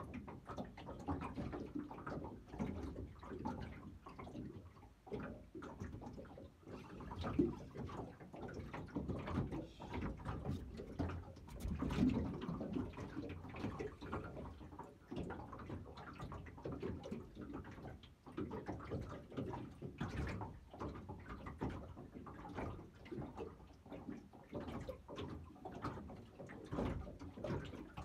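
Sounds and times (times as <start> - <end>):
water lapping against boat hull: 0.0 - 28.0.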